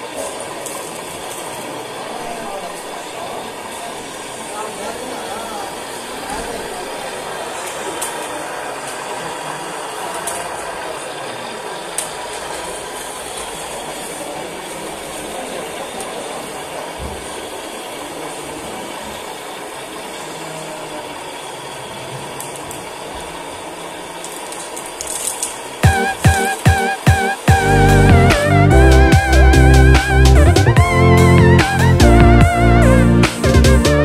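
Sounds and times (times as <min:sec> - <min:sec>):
small electric motors whirring: 0:00.0 - 0:34.0.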